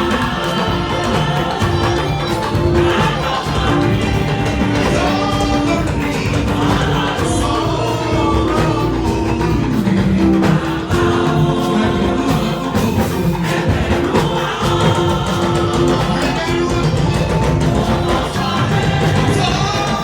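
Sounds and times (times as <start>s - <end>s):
church choir singing: 0.0s - 20.0s
instrumental accompaniment: 0.0s - 20.0s.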